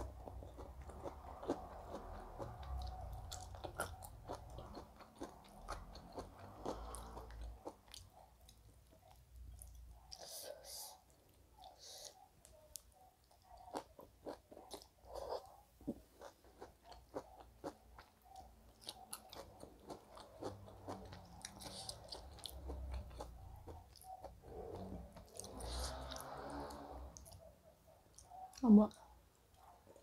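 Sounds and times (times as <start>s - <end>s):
person chewing food: 0.0s - 28.7s.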